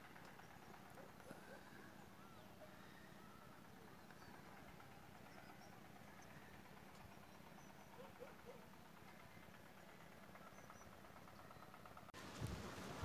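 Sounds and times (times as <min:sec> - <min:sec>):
faint bird chirps: 0:00.0 - 0:11.9.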